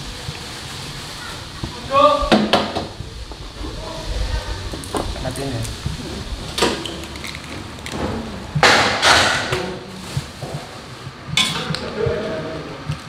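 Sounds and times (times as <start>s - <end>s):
wok hissing: 0.0s - 11.8s.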